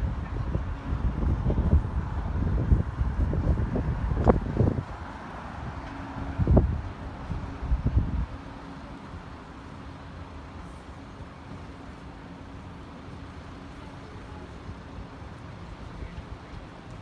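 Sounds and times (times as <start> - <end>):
low rumble of vehicles: 0.0 - 17.0.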